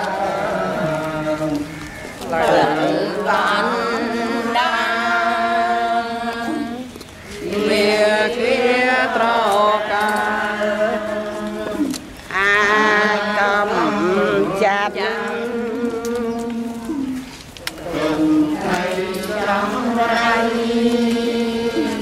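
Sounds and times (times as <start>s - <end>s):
voices chanting long held notes: 0.0s - 22.0s.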